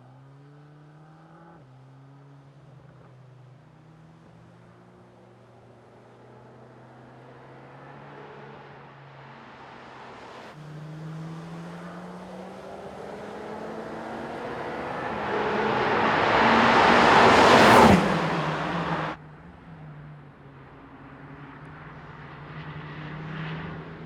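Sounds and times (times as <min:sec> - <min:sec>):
car engine approaching: 0:00.1 - 0:24.0.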